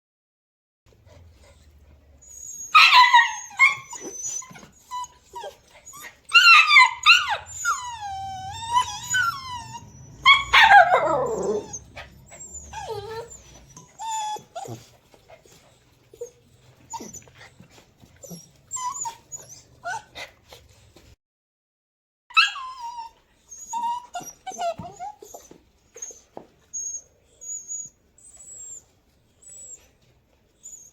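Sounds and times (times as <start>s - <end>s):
puppies whimpering and yelping: 1.1s - 21.0s, 22.3s - 30.9s.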